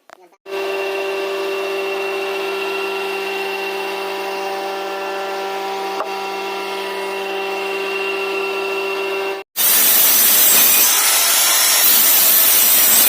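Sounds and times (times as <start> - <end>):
power tool humming: 0.5 - 13.0.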